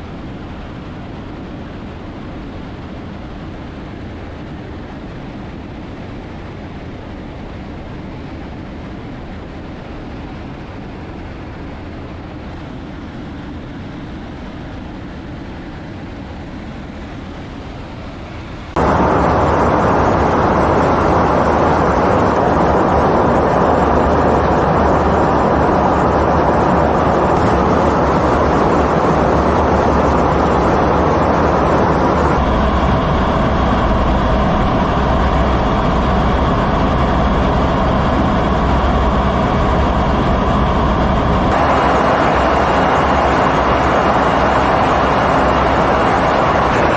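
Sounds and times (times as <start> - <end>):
jet aircraft engine noise: 0.0 - 46.9.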